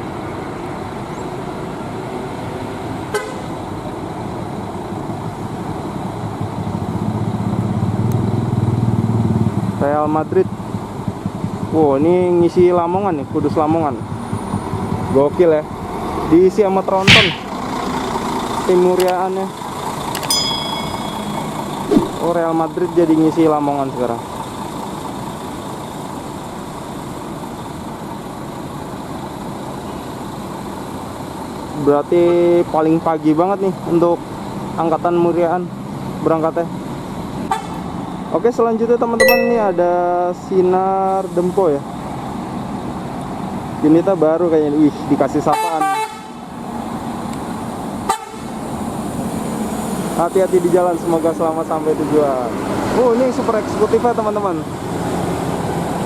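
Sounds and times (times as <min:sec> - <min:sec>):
bus engines running: 0:00.0 - 0:16.8, 0:17.6 - 0:39.0, 0:41.1 - 0:56.0.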